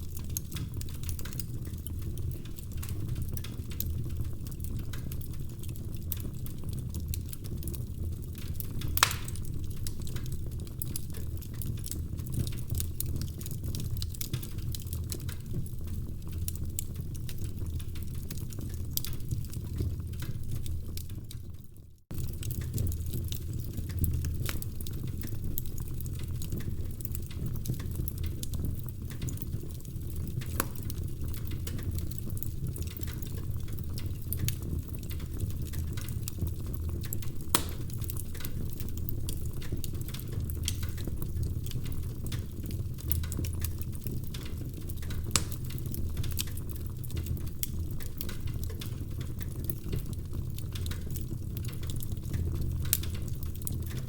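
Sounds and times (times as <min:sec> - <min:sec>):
fire low rumble: 0:00.0 - 0:54.0
wood fire crackling and snapping: 0:00.0 - 0:54.0.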